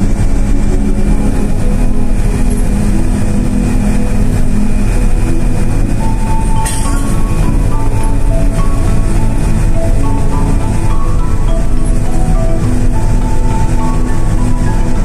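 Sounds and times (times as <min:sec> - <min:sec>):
bus engine rumble: 0:00.0 - 0:15.0
melodic music: 0:00.0 - 0:15.0
road noise: 0:00.0 - 0:15.0.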